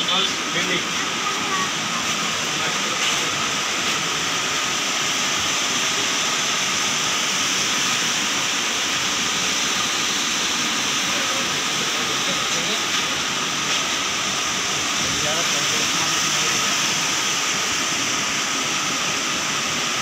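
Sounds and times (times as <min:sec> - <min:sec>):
water rushing over weir: 0:00.0 - 0:20.0.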